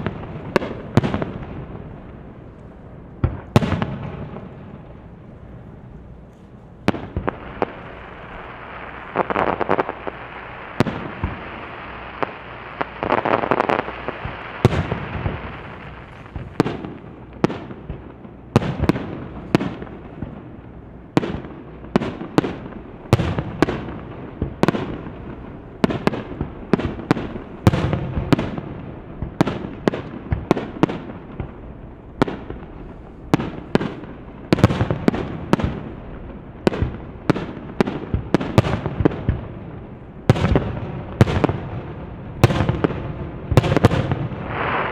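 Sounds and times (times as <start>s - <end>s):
fireworks bangs: 0.0s - 44.9s
fireworks crackling: 0.0s - 44.9s.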